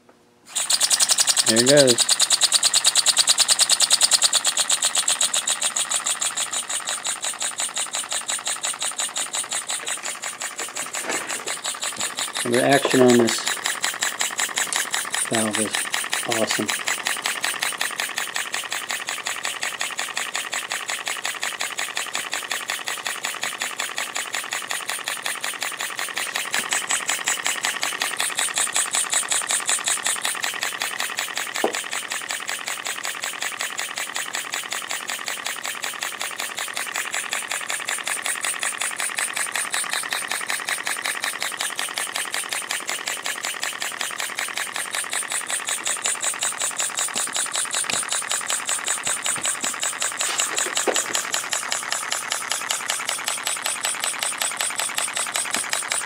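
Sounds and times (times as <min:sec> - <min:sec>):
model steam engine chuffing: 0:00.5 - 0:56.0.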